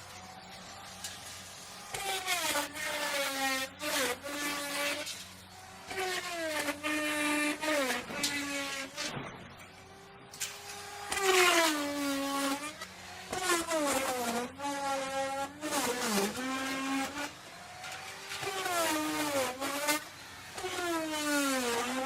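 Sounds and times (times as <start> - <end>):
wood router cutting wood: 0.0 - 22.0.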